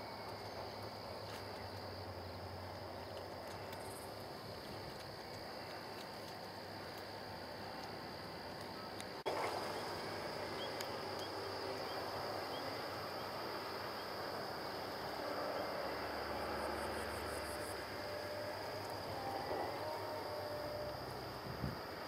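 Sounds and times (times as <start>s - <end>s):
high steady hiss: 0.0s - 22.0s.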